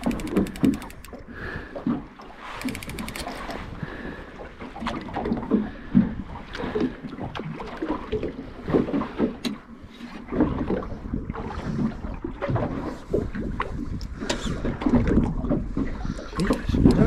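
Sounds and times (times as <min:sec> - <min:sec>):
waves splashing against boat: 0:00.0 - 0:17.0.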